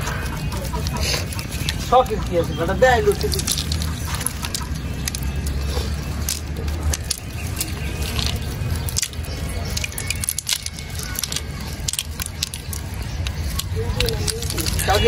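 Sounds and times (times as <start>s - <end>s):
wet net rustling and crackling: 0.0s - 15.0s.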